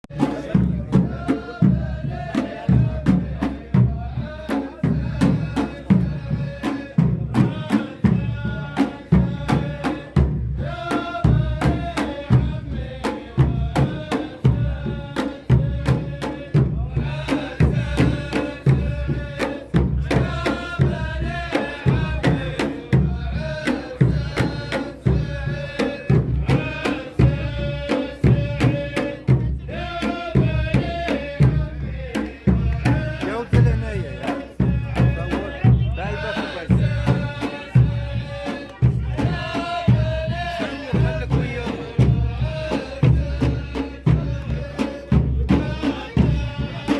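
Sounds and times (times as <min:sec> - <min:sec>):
men chanting in unison: 0:00.0 - 0:46.9
large drums beating: 0:00.1 - 0:46.9.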